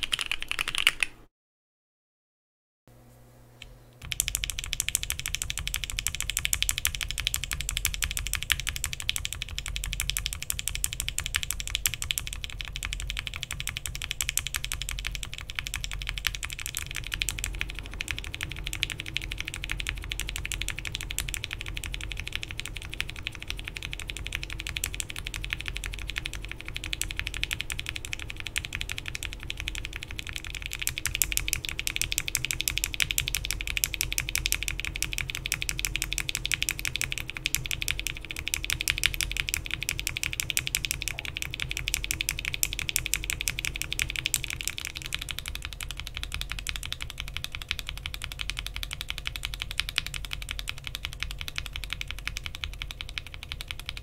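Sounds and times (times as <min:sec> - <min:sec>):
fast typing on mechanical keyboard: 0:00.0 - 0:01.2, 0:04.0 - 0:54.0.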